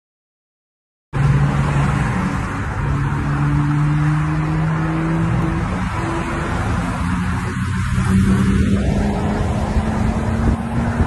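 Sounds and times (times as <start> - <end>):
low engine hum: 1.2 - 11.0
road noise inside car: 1.2 - 11.0.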